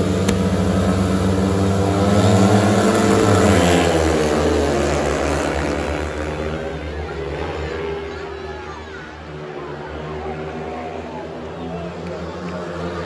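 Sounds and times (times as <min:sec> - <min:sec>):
motorcycles revving and accelerating: 0:00.0 - 0:08.4, 0:09.2 - 0:13.0.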